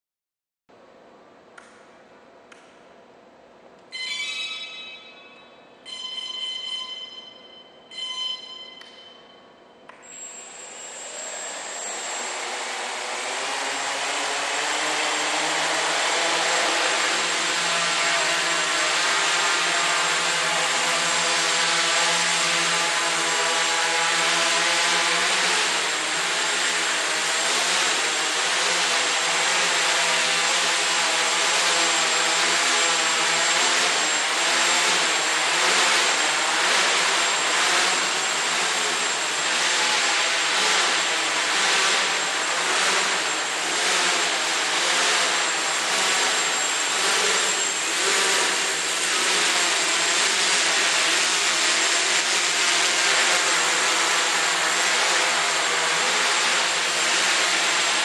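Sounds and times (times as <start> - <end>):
drone propellers whirring: 9.9 - 58.0.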